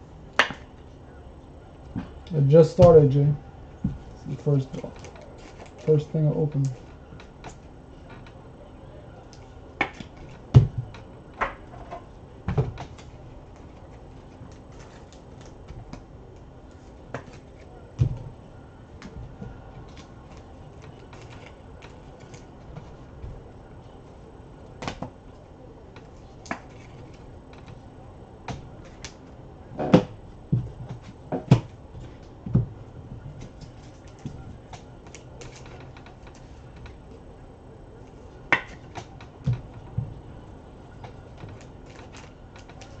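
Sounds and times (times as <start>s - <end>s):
faint hum: 0.0s - 43.0s.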